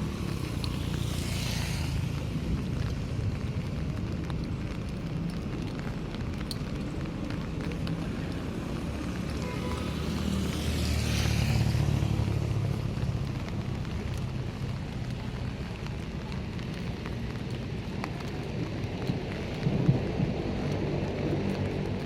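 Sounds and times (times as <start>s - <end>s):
rain: 0.0s - 22.0s
steady traffic noise: 0.0s - 22.0s
vehicle passing on wet road: 0.0s - 22.0s.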